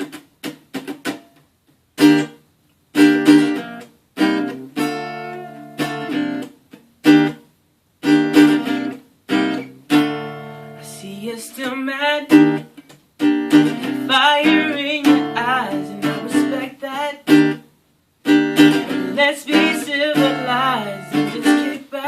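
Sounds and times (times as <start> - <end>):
acoustic guitar strumming: 0.0 - 1.4, 2.0 - 22.0.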